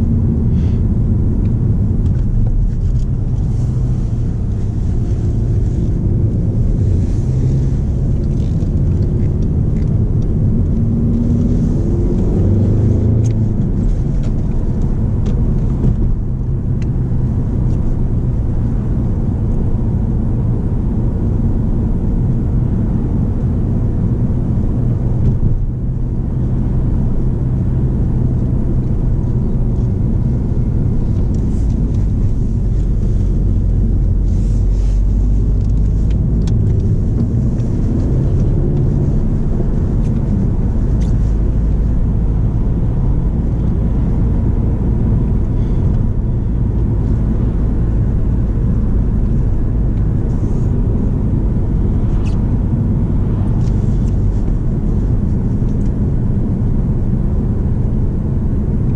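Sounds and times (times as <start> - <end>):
car cabin engine and road rumble: 0.0 - 58.9.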